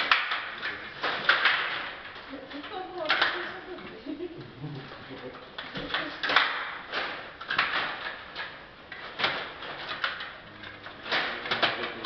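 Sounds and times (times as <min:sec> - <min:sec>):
table hockey clacks and knocks: 0:00.0 - 0:03.6, 0:04.9 - 0:12.0.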